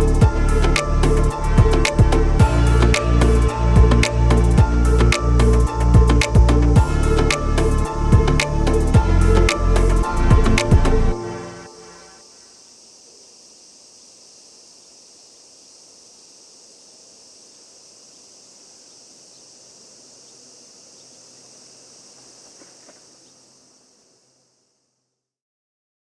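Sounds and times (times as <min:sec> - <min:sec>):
high-pitched insect chirring: 0:00.0 - 0:24.7.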